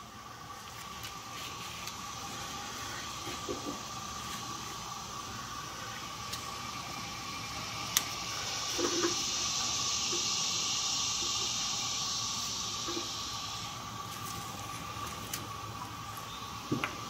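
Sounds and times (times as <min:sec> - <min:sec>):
faint constant whine: 0:00.0 - 0:17.0
steady hiss: 0:00.0 - 0:17.0.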